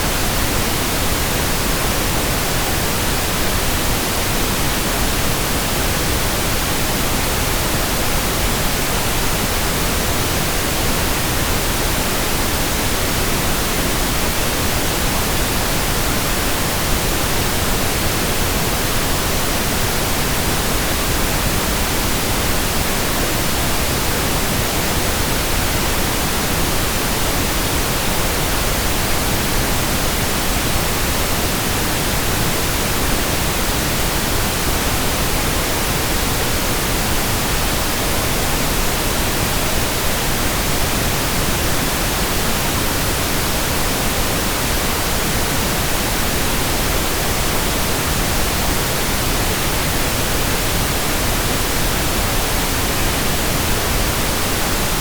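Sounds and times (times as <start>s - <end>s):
steady pink noise hiss: 0.0s - 55.0s.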